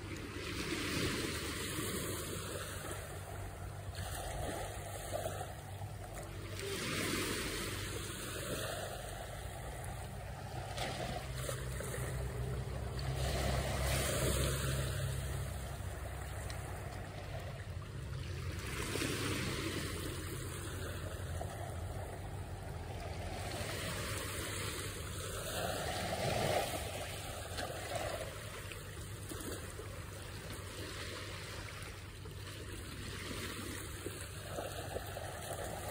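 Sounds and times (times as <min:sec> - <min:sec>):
small waves lapping on shore: 0:00.0 - 0:35.9.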